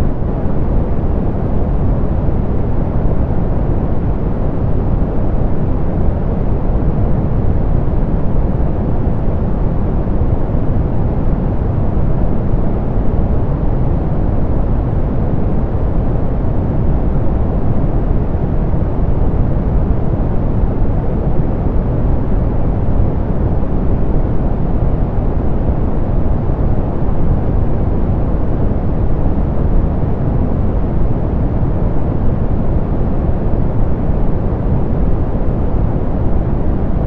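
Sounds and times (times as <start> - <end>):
soft pink noise: 0.0 - 37.0.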